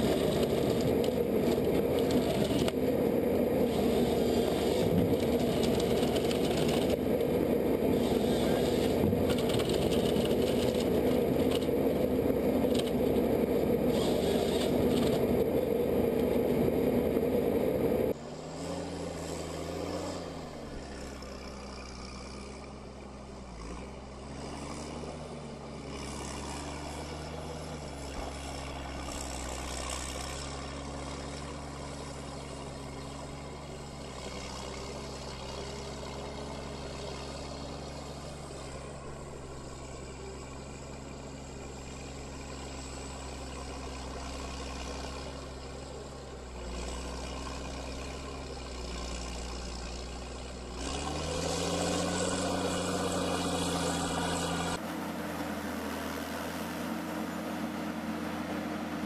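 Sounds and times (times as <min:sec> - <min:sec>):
heavy machine engine running: 0:00.0 - 0:59.0.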